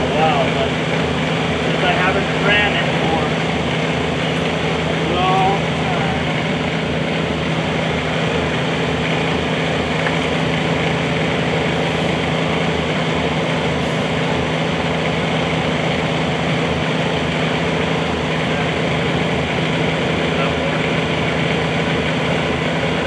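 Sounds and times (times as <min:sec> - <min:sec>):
mini excavator engine running: 0:00.0 - 0:23.0.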